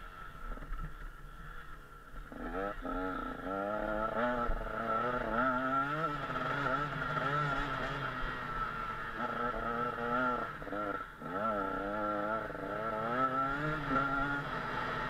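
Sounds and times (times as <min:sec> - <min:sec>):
motocross bike engine revving: 0:02.2 - 0:15.0.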